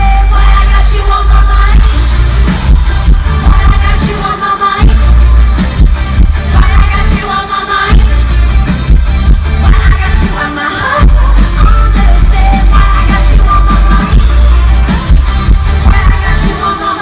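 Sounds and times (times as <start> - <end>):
live pop music: 0.0 - 17.0.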